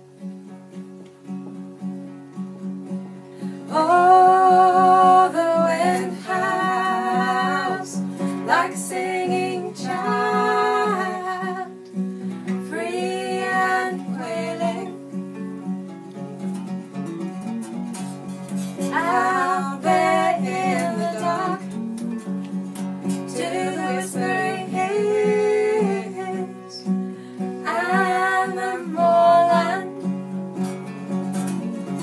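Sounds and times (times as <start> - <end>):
acoustic guitars strumming: 0.0 - 32.0
woman singing folk song: 3.4 - 15.8, 18.5 - 32.0.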